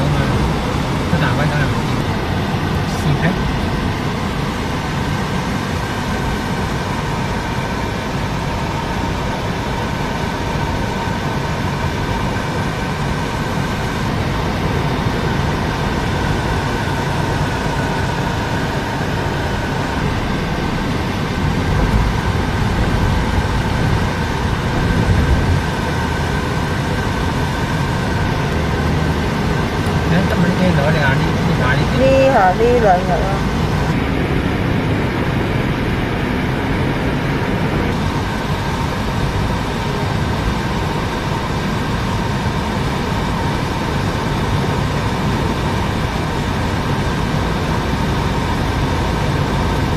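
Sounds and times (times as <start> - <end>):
car road and engine noise: 0.0 - 49.9
faint steady tones: 0.0 - 49.9.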